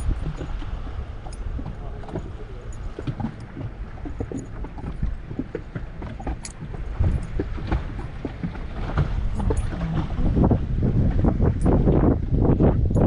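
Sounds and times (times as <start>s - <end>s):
water lapping against boat hull: 0.0s - 13.0s
wind rumble on microphone: 0.0s - 13.0s.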